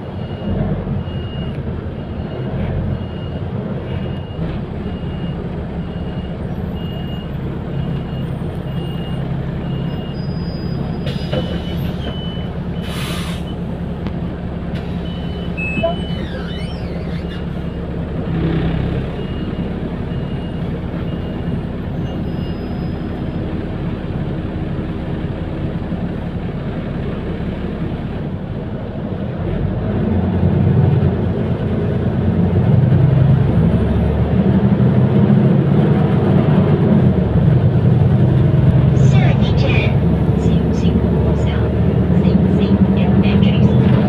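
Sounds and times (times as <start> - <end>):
bus engine and road rumble: 0.0 - 44.0.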